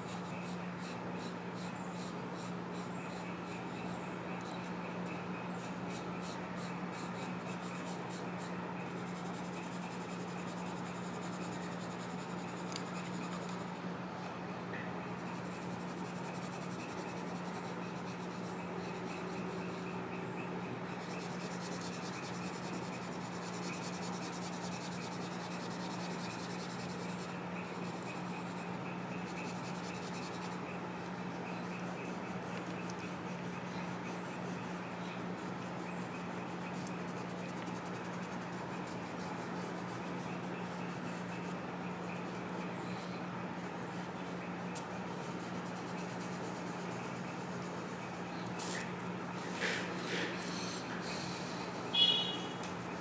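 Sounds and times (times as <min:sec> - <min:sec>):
steady low hum: 0:00.0 - 0:53.0
charcoal pencil scratching paper: 0:00.2 - 0:04.6, 0:05.6 - 0:13.6, 0:15.2 - 0:19.9, 0:20.9 - 0:42.7, 0:43.6 - 0:53.0.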